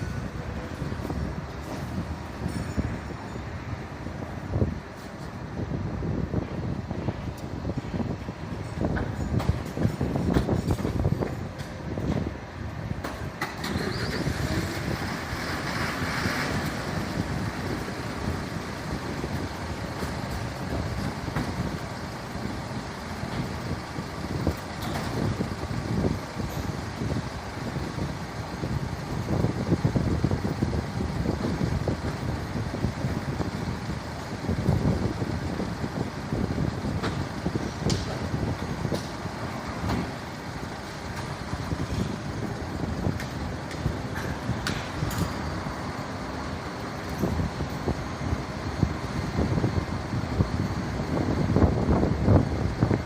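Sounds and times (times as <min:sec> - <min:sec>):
large engine rumbling: 0:00.0 - 0:53.0.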